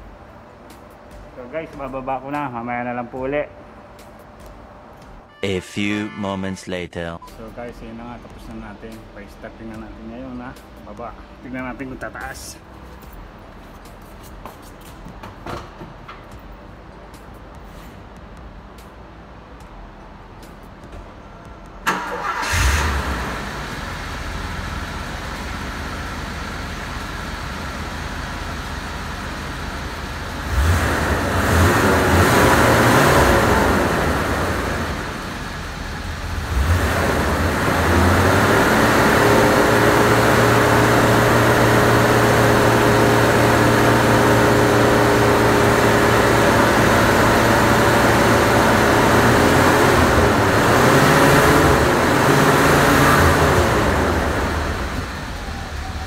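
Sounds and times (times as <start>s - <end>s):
car engine idling and revving: 7.8s - 56.0s.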